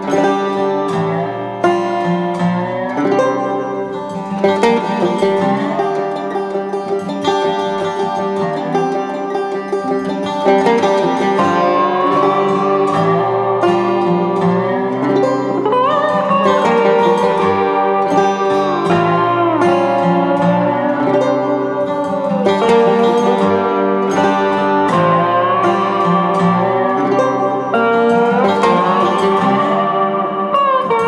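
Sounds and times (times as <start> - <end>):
plucked strings with sliding notes: 0.0 - 31.0.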